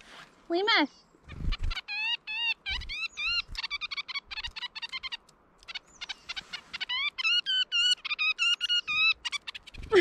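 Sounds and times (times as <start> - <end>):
nuthatch drawn-out nasal calls: 1.3 - 9.9.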